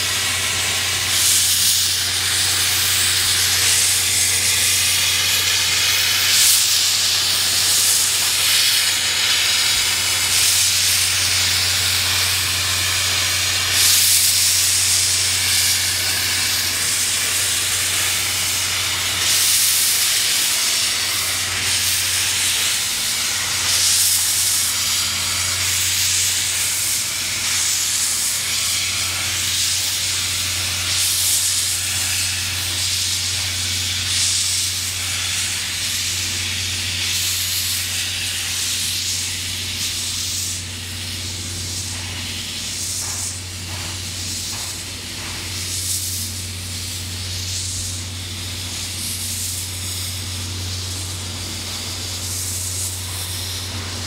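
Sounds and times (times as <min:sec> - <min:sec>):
constant low hum: 0:00.0 - 0:54.0
steam locomotive hissing steam: 0:00.0 - 0:54.0.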